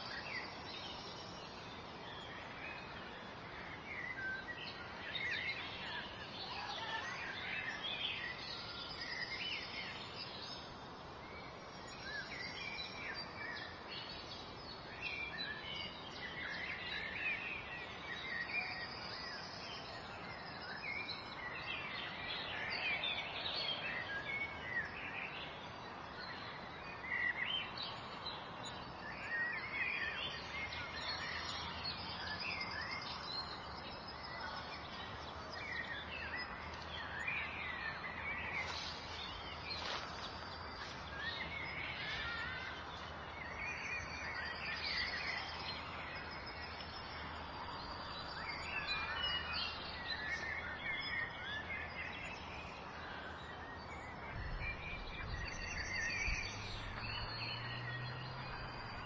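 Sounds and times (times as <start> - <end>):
steady background hiss: 0.0 - 54.6
small birds chirping: 0.0 - 59.0.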